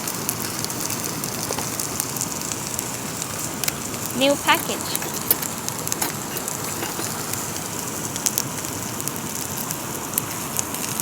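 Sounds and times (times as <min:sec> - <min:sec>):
meat sizzling in a pan: 0:00.0 - 0:11.0
rain falling: 0:00.0 - 0:11.0.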